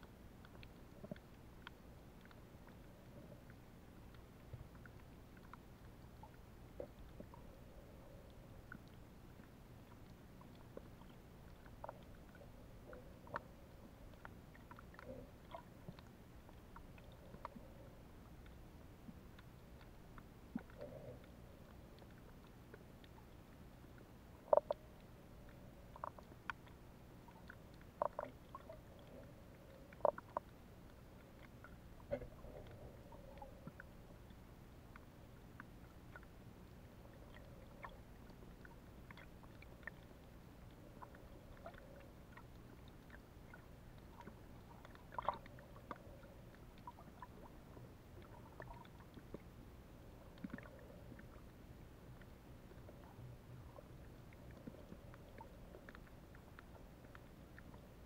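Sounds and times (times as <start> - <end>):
small clicks and pops: 0.0 - 49.5, 50.1 - 58.0
muffled underwater rumble: 0.0 - 58.0.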